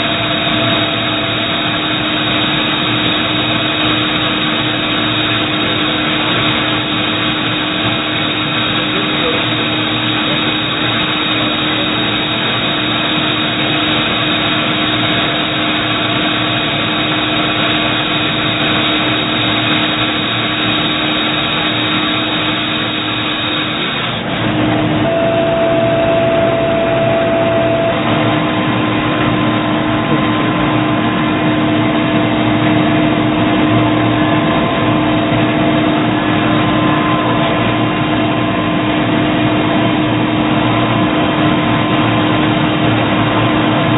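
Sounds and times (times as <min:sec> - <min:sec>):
high machine whine: 0:00.0 - 0:43.9
lathe machine hum: 0:00.0 - 0:43.9.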